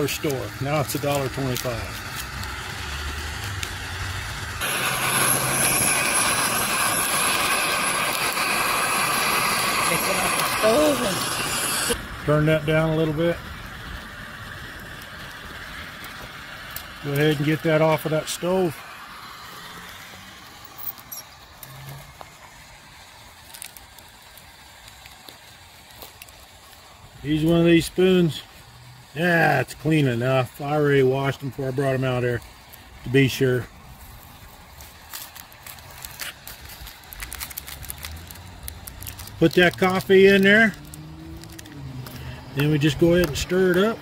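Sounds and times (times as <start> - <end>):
gas stove burner hissing: 0.0 - 44.0
water boiling: 0.0 - 44.0.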